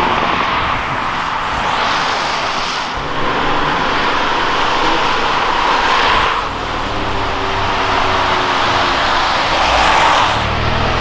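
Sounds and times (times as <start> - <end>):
car engine noise: 0.0 - 11.0.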